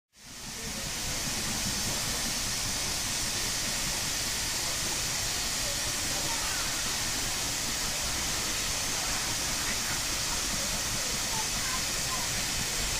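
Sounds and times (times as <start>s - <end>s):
steam hissing: 0.2s - 12.9s
steam locomotive rumble: 0.2s - 12.9s.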